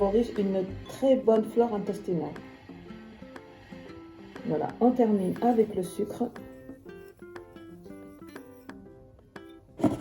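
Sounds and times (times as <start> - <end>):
plucked string instrument: 0.0 - 10.0.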